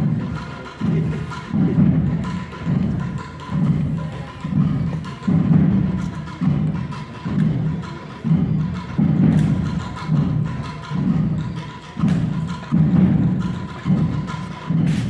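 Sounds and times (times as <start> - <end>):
crisp higher drum strikes: 0.0 - 15.0
deep drum strokes: 0.0 - 15.0.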